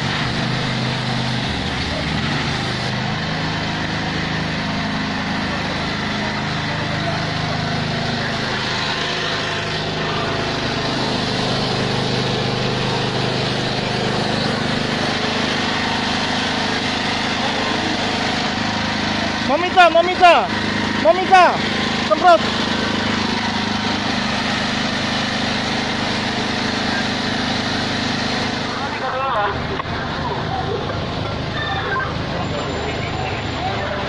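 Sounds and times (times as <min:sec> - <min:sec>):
hose spraying hiss: 0:00.0 - 0:29.0
engine-driven pump running: 0:00.0 - 0:34.0.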